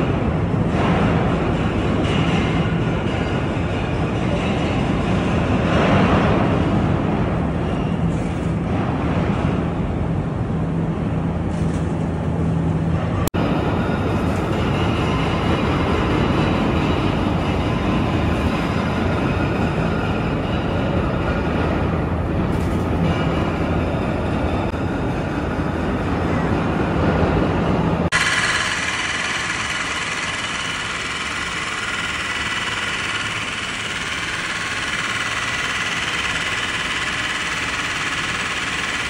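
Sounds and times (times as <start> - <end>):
loud mechanical rumble: 0.0 - 39.0.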